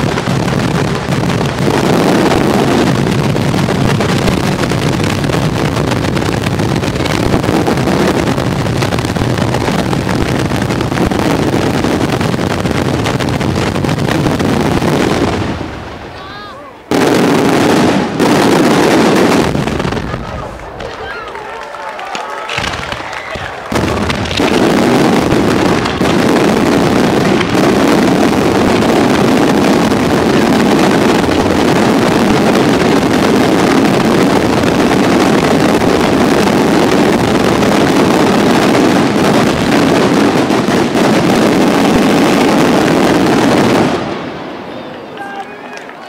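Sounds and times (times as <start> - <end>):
fireworks detonating rapidly: 0.0 - 44.8.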